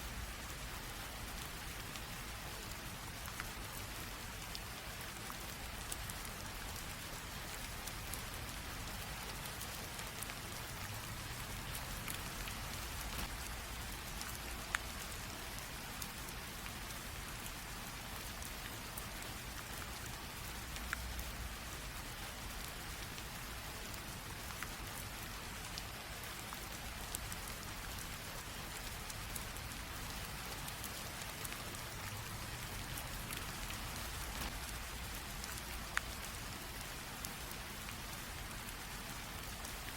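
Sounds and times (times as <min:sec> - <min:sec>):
light rain hissing: 0:00.0 - 0:39.9
raindrops ticking: 0:00.1 - 0:39.9.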